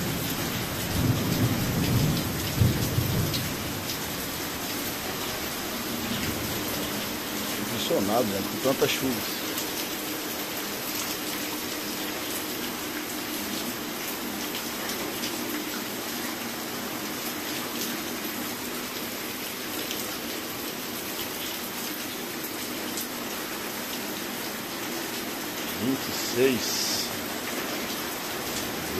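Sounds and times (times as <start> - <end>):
heavy rain falling: 0.0 - 28.9
water streaming off a roof: 0.0 - 28.9.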